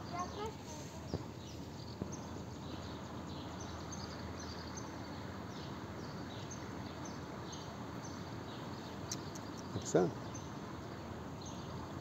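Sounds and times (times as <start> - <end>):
outdoor background hiss: 0.0 - 12.0
small bird chirping: 0.0 - 12.0.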